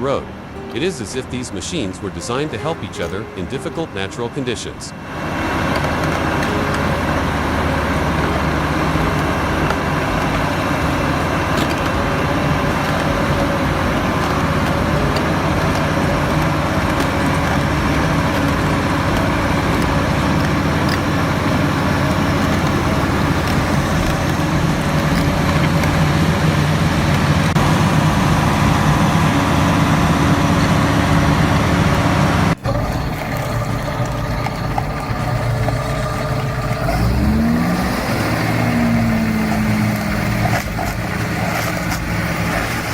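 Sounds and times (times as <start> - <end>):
diesel engines humming: 0.0 - 42.9.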